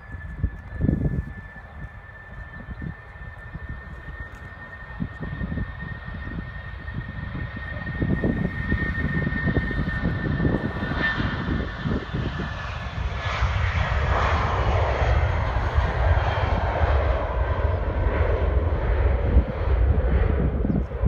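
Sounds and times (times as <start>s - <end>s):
jet engine roar: 0.0s - 21.0s
jet engine whine: 0.0s - 21.0s.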